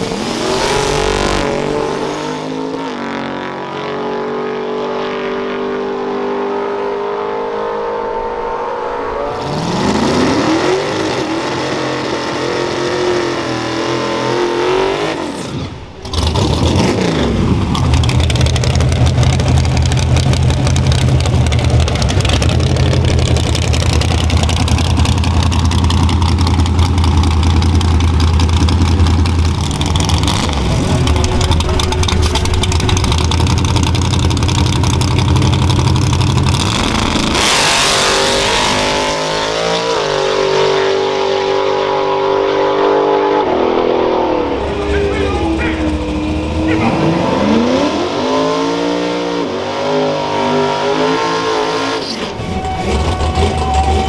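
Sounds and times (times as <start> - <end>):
truck engine idling and revving: 0.0 - 54.0.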